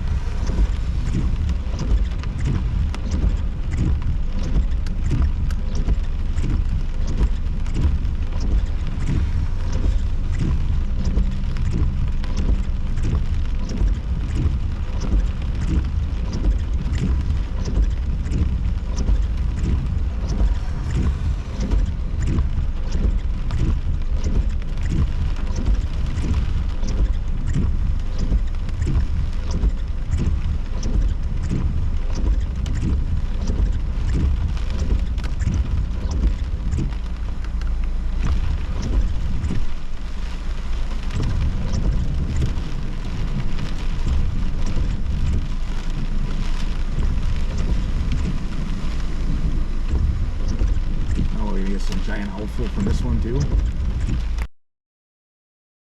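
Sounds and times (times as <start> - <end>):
rain tapping on car: 0.0 - 54.5
storm wind rumbling: 0.0 - 54.5.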